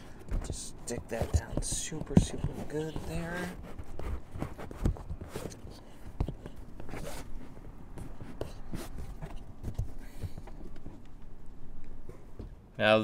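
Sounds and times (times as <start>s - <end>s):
hands rubbing on plastic: 0.0s - 11.3s.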